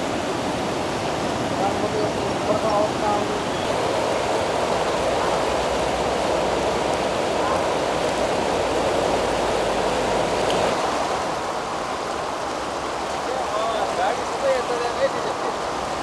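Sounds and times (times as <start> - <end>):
river rushing: 0.0 - 16.0.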